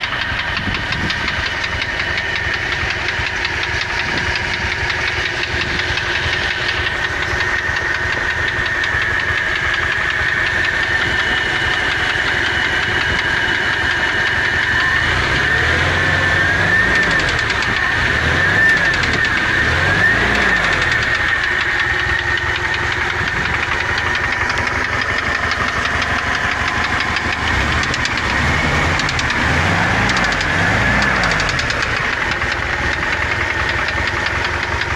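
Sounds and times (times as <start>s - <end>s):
engine idling with a knock: 0.0s - 15.1s, 20.6s - 34.9s
engine revving: 0.0s - 34.9s.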